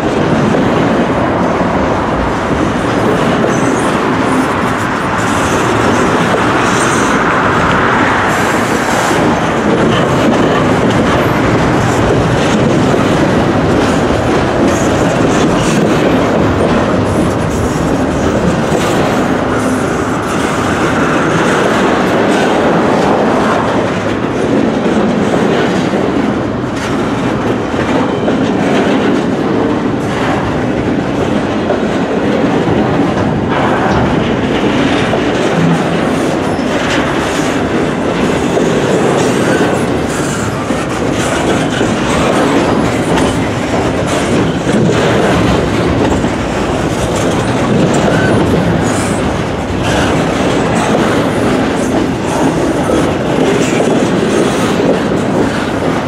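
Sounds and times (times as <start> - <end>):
steel wheels rumbling on rails: 0.0 - 56.0
wheels clattering over rail joints: 0.0 - 56.0.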